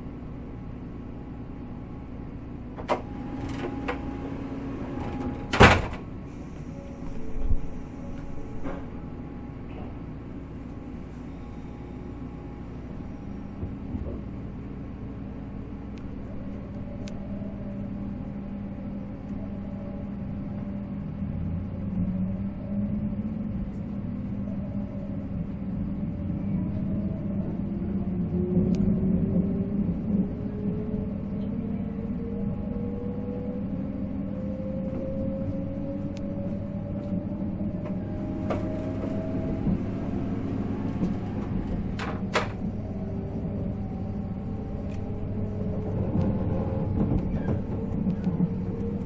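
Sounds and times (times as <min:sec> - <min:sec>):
train running rumble: 0:00.0 - 0:49.0
traction motor whine rising: 0:02.7 - 0:49.0.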